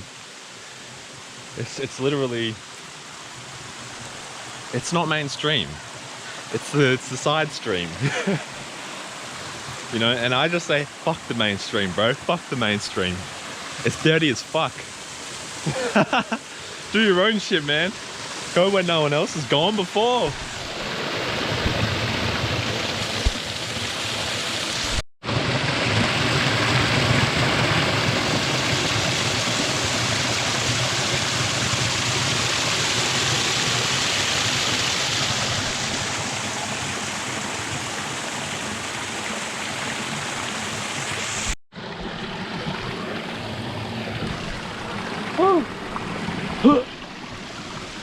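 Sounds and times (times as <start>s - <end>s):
stream water rushing: 0.0s - 48.0s.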